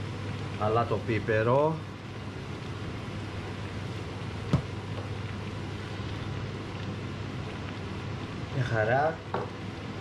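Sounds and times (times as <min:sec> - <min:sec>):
steady hum and hiss: 0:00.0 - 0:10.0.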